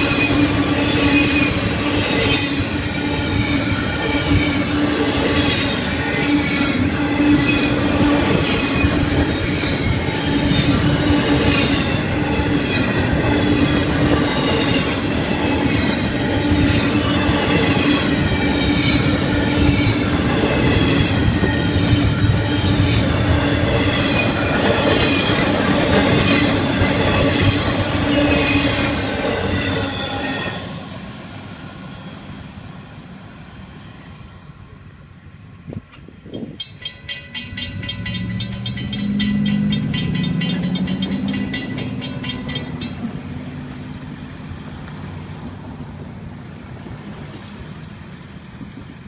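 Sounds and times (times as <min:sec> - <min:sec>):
crossing bell ringing: 0:00.0 - 0:30.8, 0:36.2 - 0:44.7
freight train wheels clacking: 0:00.0 - 0:33.0, 0:35.7 - 0:47.9.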